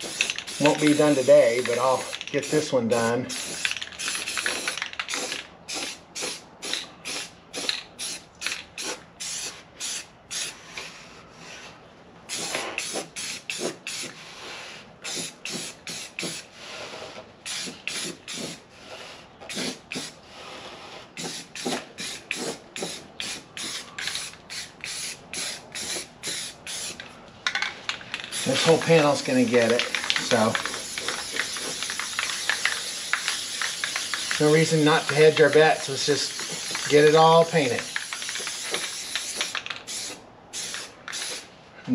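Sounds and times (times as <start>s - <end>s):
spray paint can hissing: 0.0s - 2.7s, 3.3s - 10.6s, 12.3s - 14.2s, 15.0s - 16.5s, 17.4s - 18.6s, 19.5s - 20.2s, 21.2s - 41.5s.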